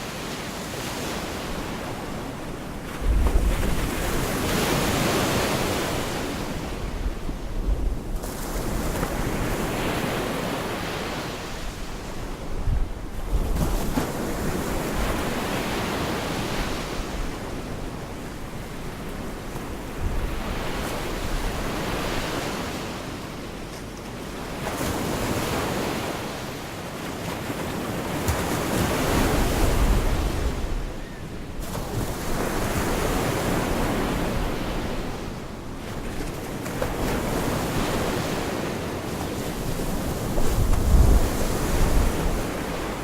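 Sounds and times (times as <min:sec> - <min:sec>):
waves breaking on beach: 0:00.0 - 0:23.4, 0:24.2 - 0:43.0.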